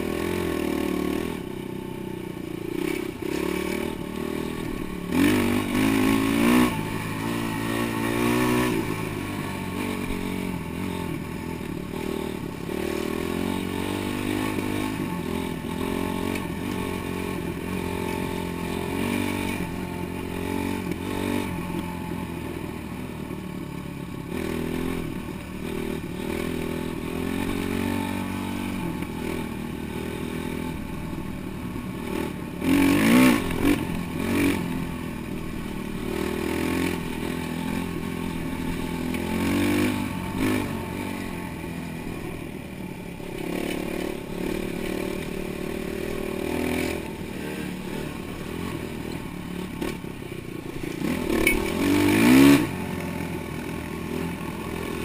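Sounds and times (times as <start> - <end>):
dirt bike engine revving: 0.0 - 1.4, 2.7 - 22.3, 24.2 - 55.0.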